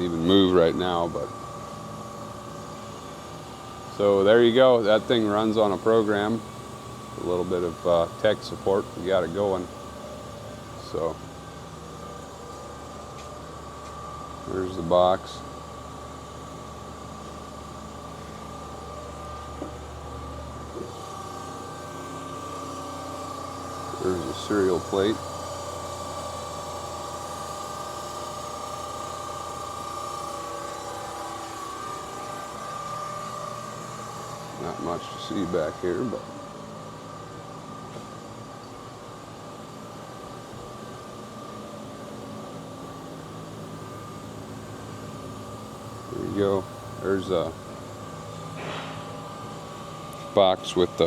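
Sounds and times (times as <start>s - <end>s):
hydraulic pump motor humming: 0.0s - 51.0s.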